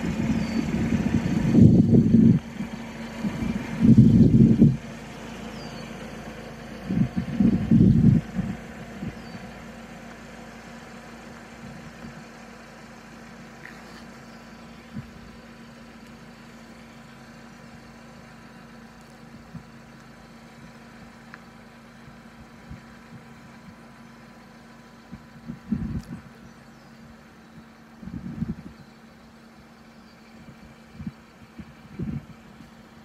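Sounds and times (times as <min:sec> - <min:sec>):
low engine hum: 0:00.0 - 0:33.0.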